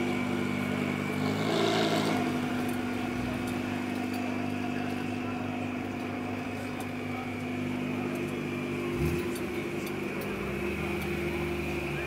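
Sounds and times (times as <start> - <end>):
race car engines idling: 0.0 - 12.0.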